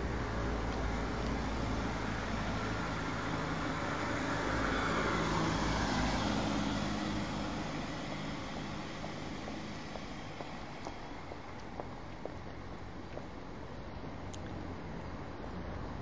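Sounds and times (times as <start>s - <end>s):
car driving past: 0.0s - 13.6s
car tyre noise: 0.0s - 16.0s.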